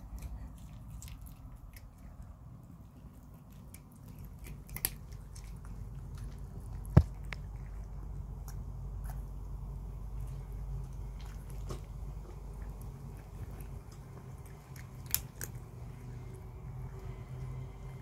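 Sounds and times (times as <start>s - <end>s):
cat crunching dry food: 0.0s - 17.6s.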